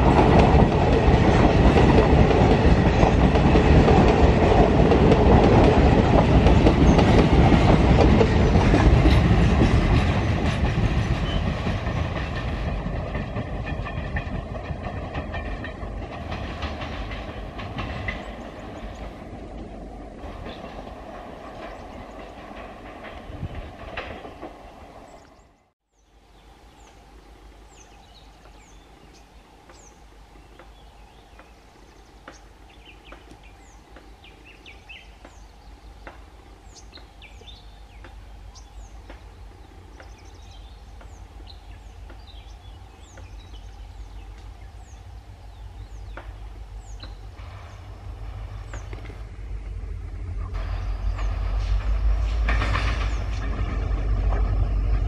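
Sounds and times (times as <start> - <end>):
diesel train rumbling: 0.0 - 26.9, 27.7 - 55.0.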